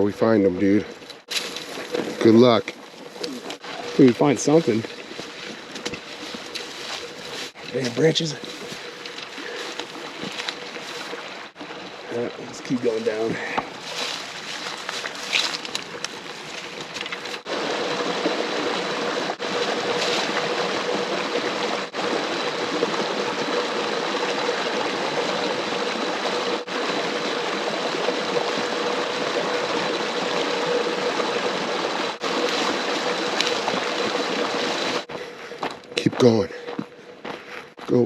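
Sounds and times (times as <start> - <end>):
creek water flowing: 0.0 - 37.6.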